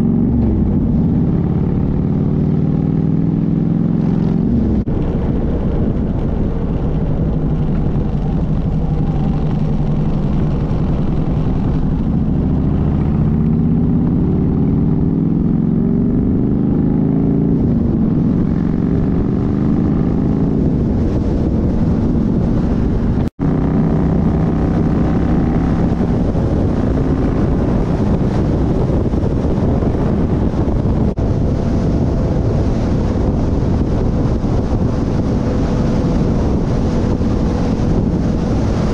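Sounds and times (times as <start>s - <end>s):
motorcycle engine running: 0.0s - 38.9s
wind rush: 0.0s - 38.9s.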